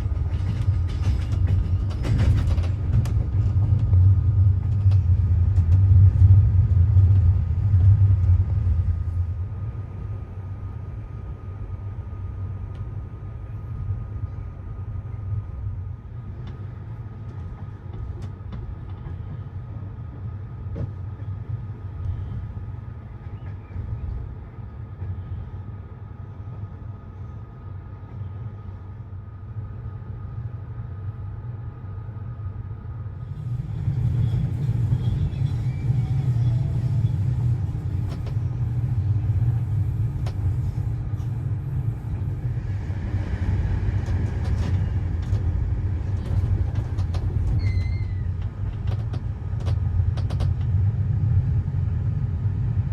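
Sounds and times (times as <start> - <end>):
train rumbling: 0.0 - 52.9.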